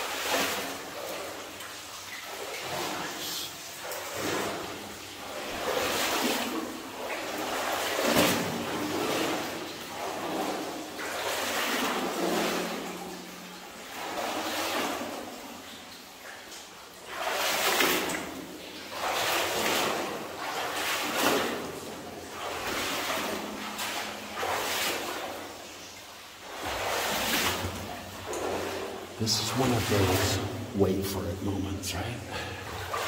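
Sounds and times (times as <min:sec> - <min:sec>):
water sloshing from wading: 0:00.0 - 0:33.0.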